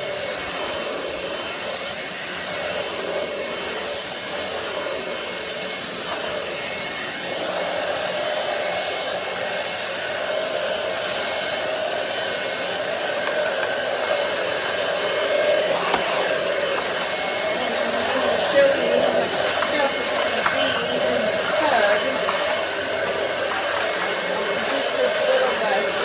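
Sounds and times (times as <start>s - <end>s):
stick vacuum cleaner running: 0.0s - 26.0s.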